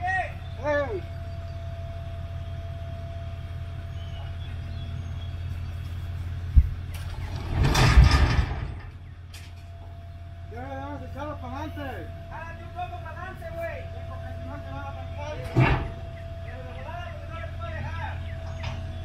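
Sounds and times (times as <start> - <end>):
heavy vehicle engine idling: 0.0 - 19.0.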